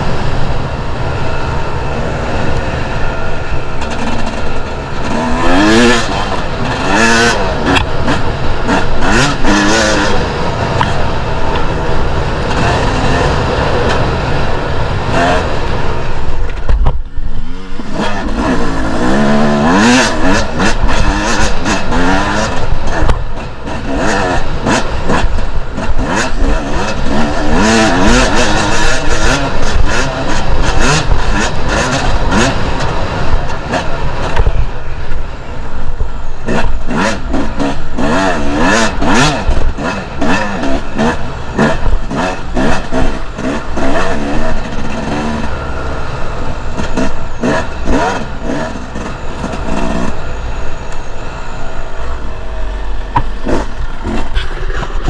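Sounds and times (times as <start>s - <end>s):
dirt bike engine revving: 0.0s - 16.6s, 17.3s - 55.0s
knocks and buffeting: 0.0s - 55.0s.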